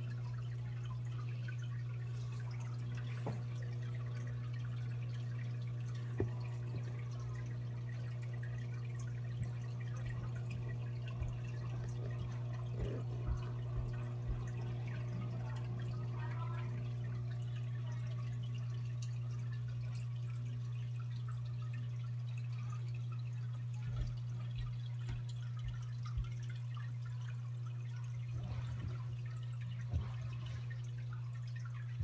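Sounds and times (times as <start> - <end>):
aquarium pumps humming: 0.0 - 32.0
water trickling and dripping: 0.0 - 32.0.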